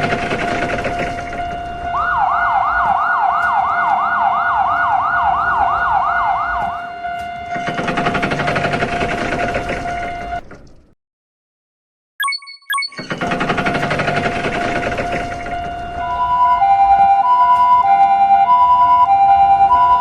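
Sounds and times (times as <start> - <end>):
electronic siren alarm: 0.0 - 10.5, 12.2 - 20.0.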